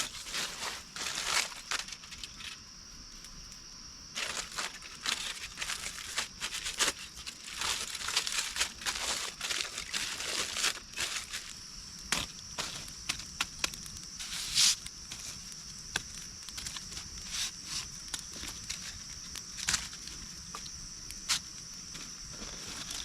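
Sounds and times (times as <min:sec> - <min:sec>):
crinkling and rustling: 0:00.0 - 0:02.6, 0:04.2 - 0:15.6, 0:16.5 - 0:23.0.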